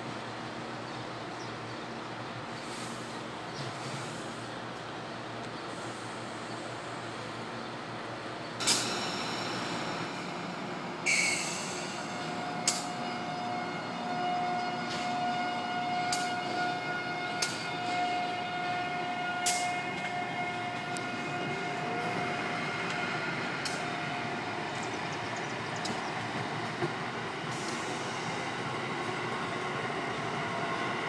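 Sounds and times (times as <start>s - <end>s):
electric locomotive whine: 0.0s - 31.0s
train running noise: 0.0s - 31.0s.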